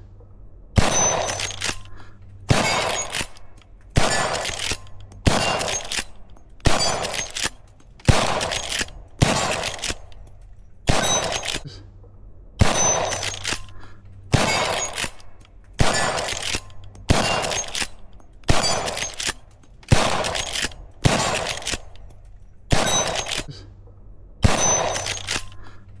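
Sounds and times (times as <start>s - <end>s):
rifle shots echoing: 0.8s - 11.6s, 12.6s - 23.5s, 24.4s - 25.8s.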